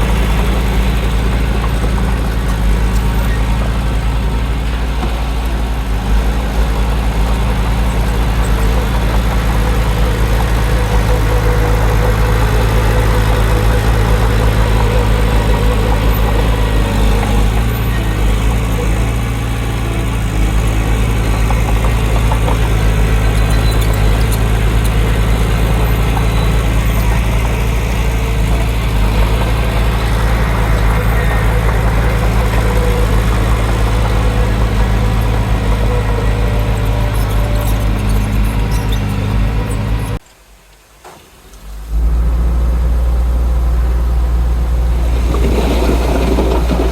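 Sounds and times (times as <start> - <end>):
heavy diesel engine droning: 0.0 - 40.2, 41.7 - 46.9.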